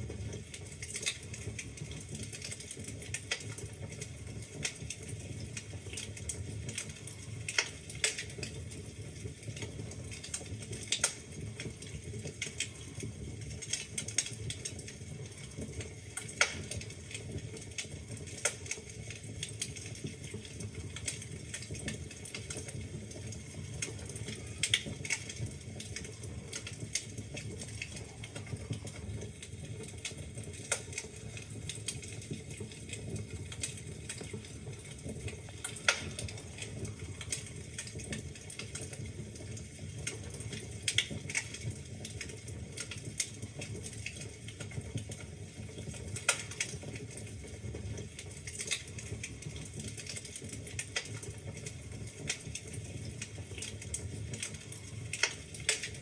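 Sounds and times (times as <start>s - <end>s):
wood fire crackling: 0.0s - 56.0s
logs popping: 4.6s - 8.6s, 9.6s - 45.2s, 48.2s - 56.0s.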